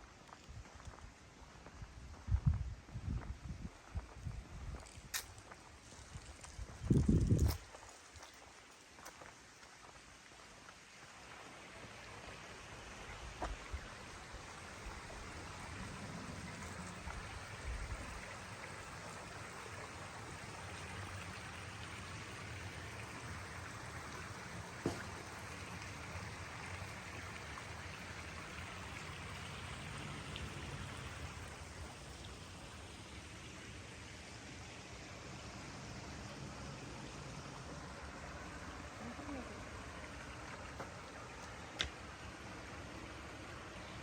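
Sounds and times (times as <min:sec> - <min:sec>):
running water hiss: 0:03.7 - 0:44.0.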